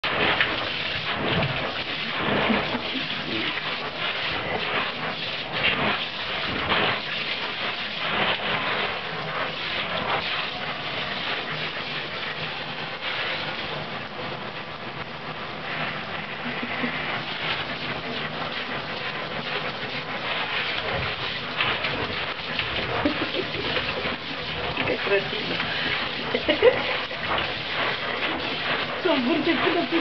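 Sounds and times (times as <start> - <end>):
sharp water splashes: 0.0 - 14.8, 15.7 - 30.0
running water splashing: 0.0 - 30.0.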